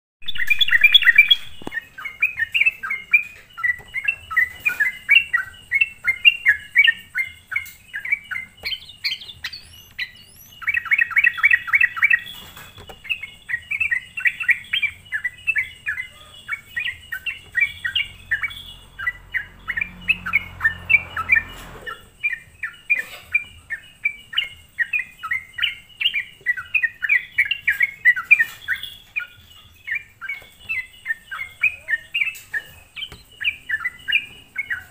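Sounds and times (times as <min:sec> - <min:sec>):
bulbul chirping: 0:00.2 - 0:34.9.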